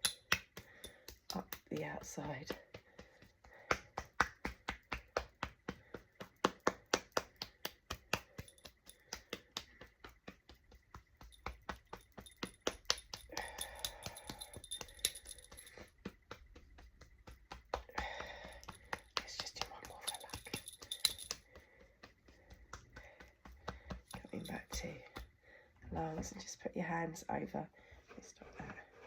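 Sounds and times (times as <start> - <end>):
hand patting arm: 0.0 - 26.1.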